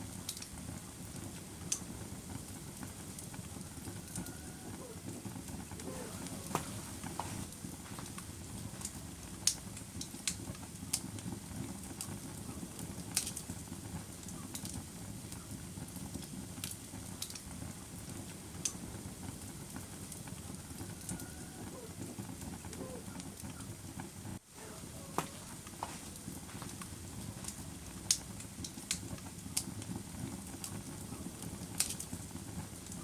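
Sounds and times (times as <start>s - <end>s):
fire crackles and pops: 0.0s - 33.0s
wood fire burning: 0.0s - 33.0s.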